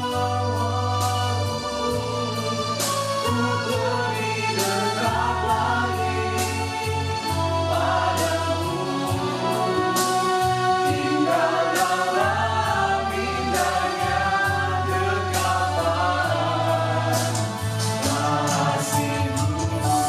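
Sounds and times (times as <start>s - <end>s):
group singing praise song: 0.0s - 20.0s
keyboard chords and bass: 0.0s - 20.0s.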